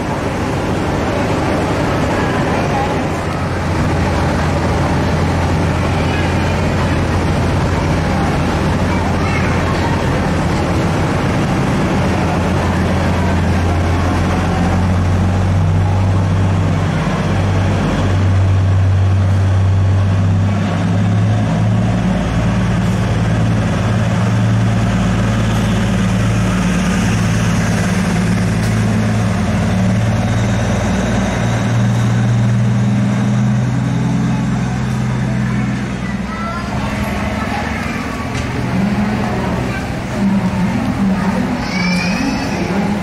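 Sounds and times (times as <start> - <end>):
diesel train engine humming: 0.0 - 43.0.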